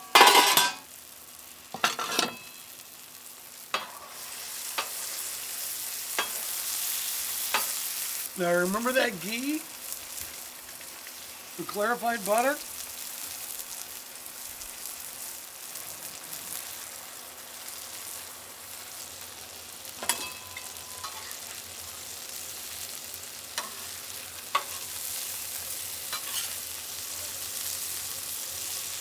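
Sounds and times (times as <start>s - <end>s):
meat sizzling on a griddle: 0.0s - 29.0s.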